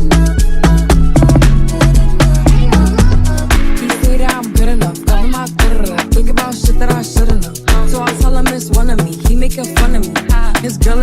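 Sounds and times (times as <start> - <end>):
afrobeats song with heavy bass: 0.0 - 11.0.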